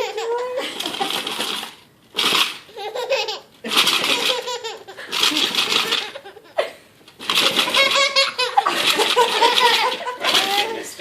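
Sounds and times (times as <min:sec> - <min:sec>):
baby laughing: 0:00.0 - 0:01.4, 0:02.6 - 0:10.8.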